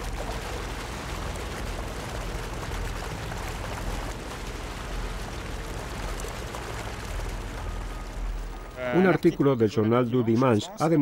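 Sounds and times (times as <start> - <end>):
water gushing from pipe: 0.0 - 9.3.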